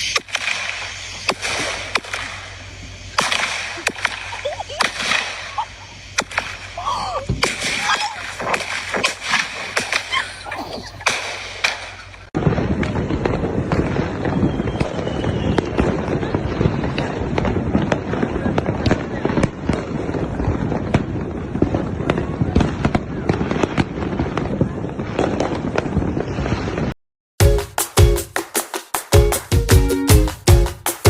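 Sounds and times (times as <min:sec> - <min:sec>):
firecrackers banging: 0:00.0 - 0:31.0.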